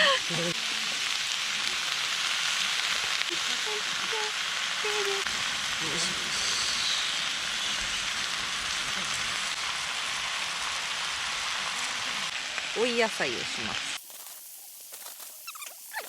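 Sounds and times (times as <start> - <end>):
vegetables sizzling in a hot pan: 0.0 - 16.0.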